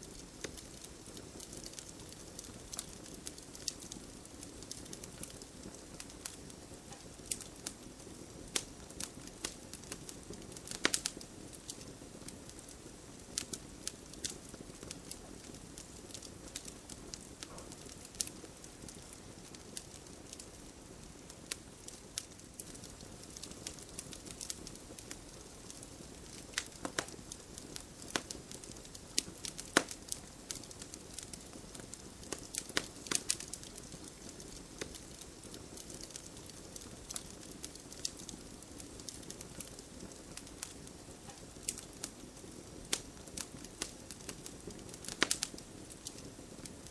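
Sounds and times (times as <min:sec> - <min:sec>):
campfire hissing: 0:00.0 - 0:46.9
fire crackling and popping: 0:00.0 - 0:46.9.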